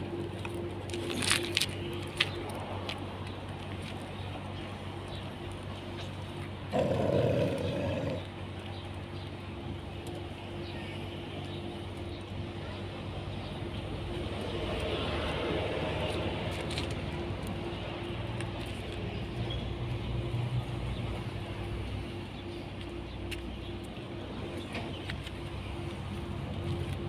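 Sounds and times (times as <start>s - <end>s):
engine hum: 0.0s - 27.0s.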